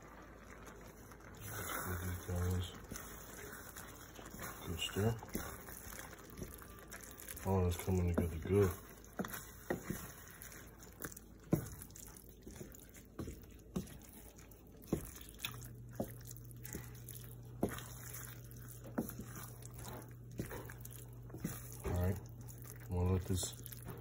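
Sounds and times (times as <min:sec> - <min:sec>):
low steady hum: 0:00.0 - 0:24.0
spoon stirring thick risotto: 0:00.0 - 0:24.0.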